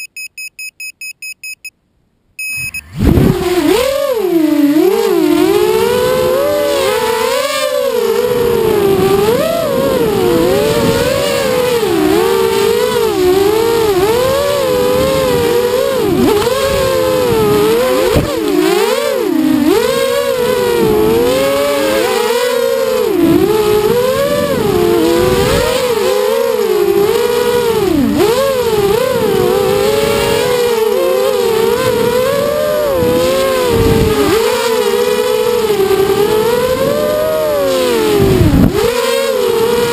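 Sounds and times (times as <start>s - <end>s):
quadcopter motors whining: 2.4s - 39.9s.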